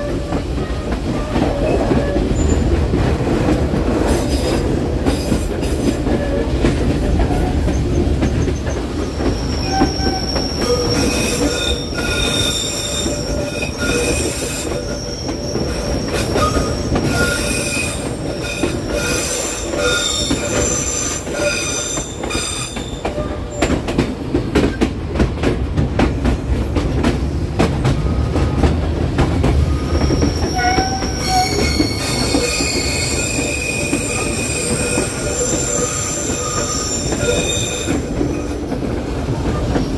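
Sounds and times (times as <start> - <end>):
train wheels squealing on rails: 0.0 - 3.2, 3.8 - 24.0, 29.6 - 39.9
low train rumble: 0.0 - 39.9.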